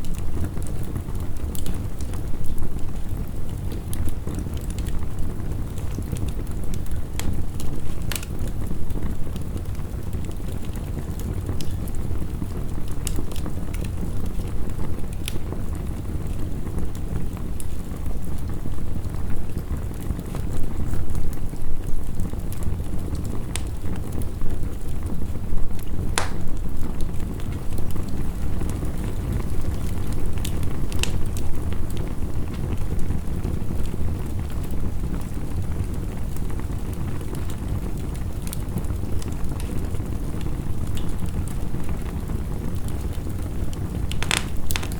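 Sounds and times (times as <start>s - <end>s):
heavy rain rumble: 0.0s - 44.9s
wood fire crackling: 0.0s - 44.9s.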